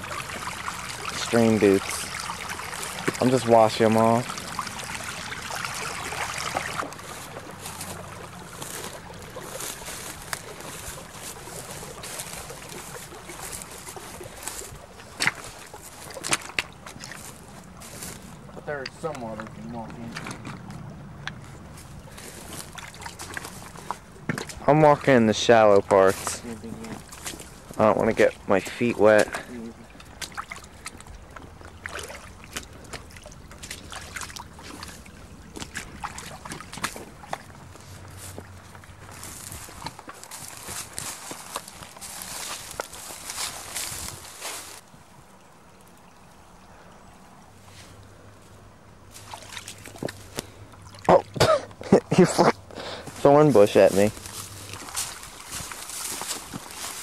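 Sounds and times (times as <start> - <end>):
footsteps crunching through dry grass: 0.0 - 25.1, 25.9 - 29.5, 30.2 - 44.9, 49.1 - 50.5, 52.9 - 57.0
creek water trickling: 0.0 - 57.0.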